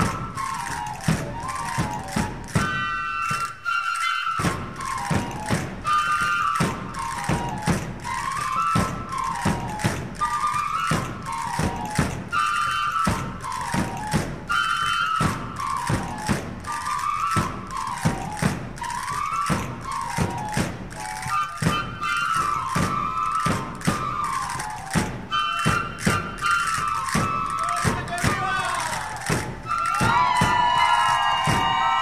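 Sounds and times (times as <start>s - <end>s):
steady drum beats: 0.0s - 3.6s, 4.3s - 32.0s
transverse flutes playing tune: 0.0s - 32.0s.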